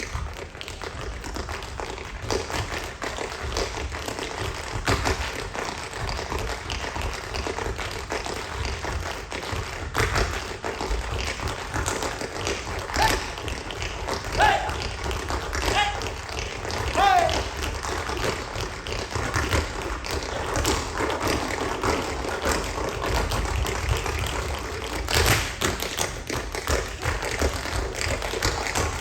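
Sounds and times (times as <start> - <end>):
tap shoes tapping on stage floor: 0.0 - 29.0.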